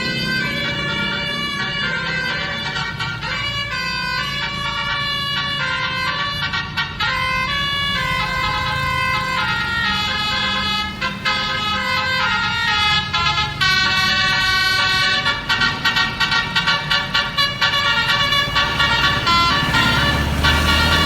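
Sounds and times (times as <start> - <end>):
multi-tone bus horn melody: 0.0 - 21.0.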